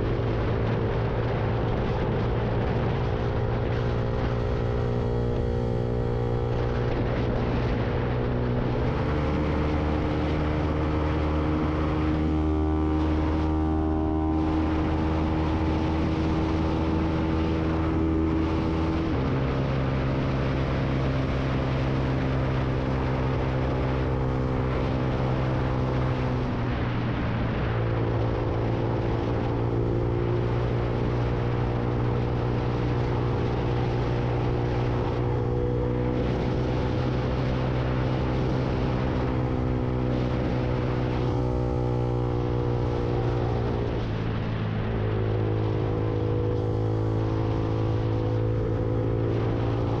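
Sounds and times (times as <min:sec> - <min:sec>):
wind and road rush: 0:00.0 - 0:50.0.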